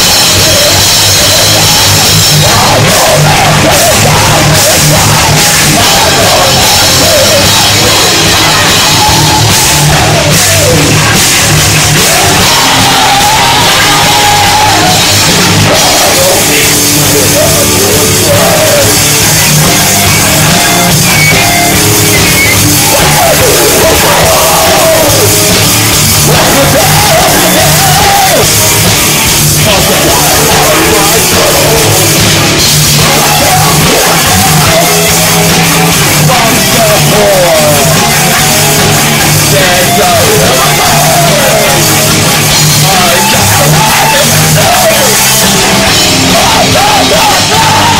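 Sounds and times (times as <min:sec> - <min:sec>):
distorted electric guitar: 0:00.0 - 0:47.9
punk metal band playing live: 0:00.0 - 0:47.9
shouted vocals: 0:00.0 - 0:47.9.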